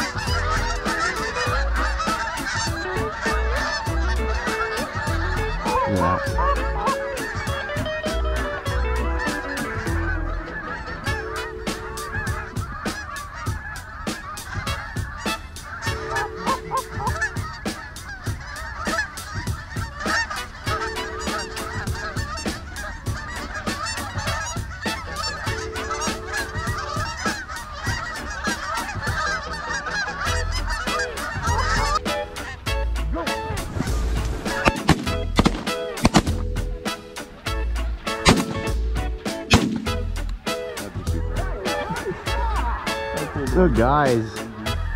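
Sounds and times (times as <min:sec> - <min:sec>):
geese honking: 0:00.0 - 0:44.9
music with steady beat: 0:00.0 - 0:44.9.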